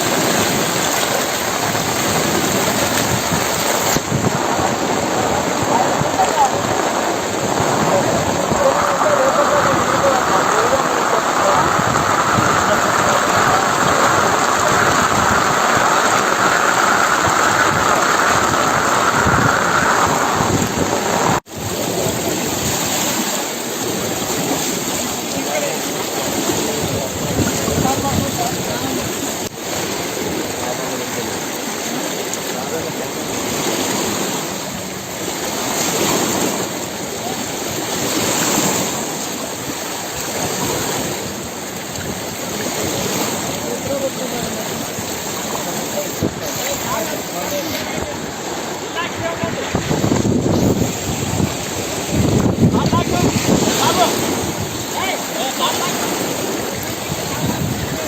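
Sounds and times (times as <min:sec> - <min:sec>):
water rushing over road: 0:00.0 - 0:58.0.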